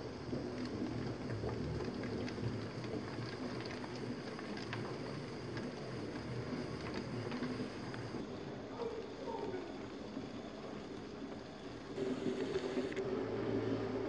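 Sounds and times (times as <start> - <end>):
pottery wheel humming: 0.0 - 14.0.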